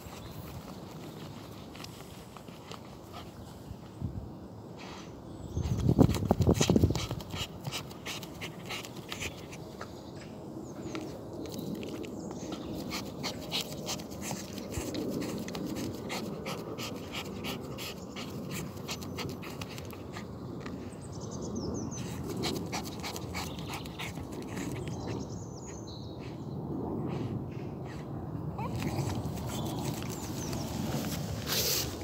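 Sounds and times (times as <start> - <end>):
dog panting and snuffling: 0.0 - 3.8, 5.5 - 20.8, 21.9 - 32.0
paws scratching soil: 0.0 - 4.0, 5.5 - 21.0, 21.8 - 26.4, 27.9 - 32.0.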